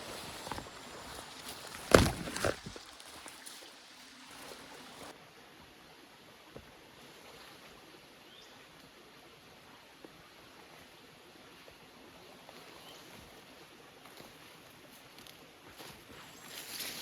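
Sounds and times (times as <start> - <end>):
rainforest background hiss: 0.0 - 17.0.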